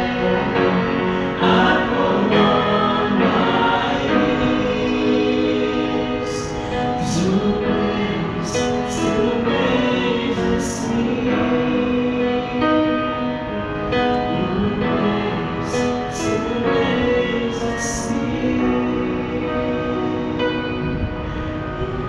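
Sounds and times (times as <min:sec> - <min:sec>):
mixed vocal ensemble singing gospel: 0:00.0 - 0:22.0.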